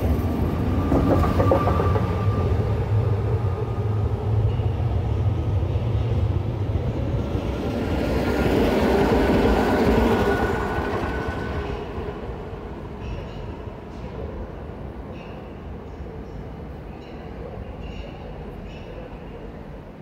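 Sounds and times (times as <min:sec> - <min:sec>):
train running past: 0:00.0 - 0:20.0.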